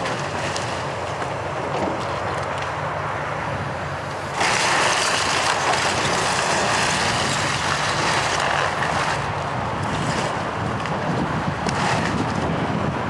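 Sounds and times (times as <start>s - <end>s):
excavator demolishing debris: 0.0s - 2.7s, 4.2s - 12.7s
excavator diesel engine: 0.0s - 13.0s.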